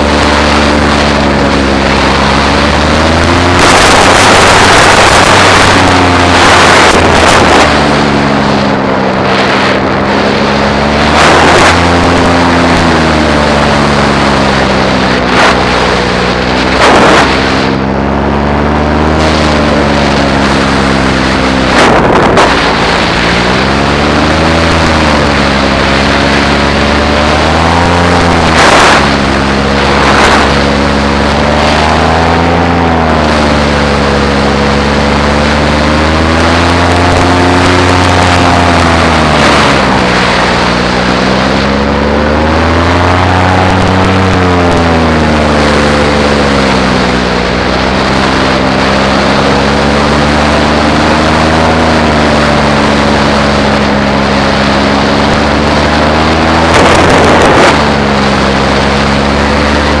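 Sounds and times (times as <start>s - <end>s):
rushing air: 0.0s - 47.8s, 48.4s - 60.0s
paramotor engine and propeller: 0.0s - 60.0s.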